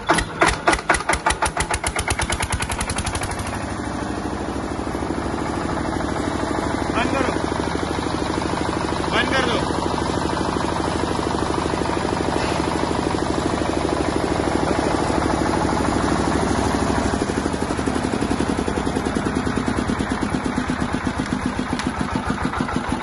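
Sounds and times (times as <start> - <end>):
diesel generator engine running: 0.0 - 23.0.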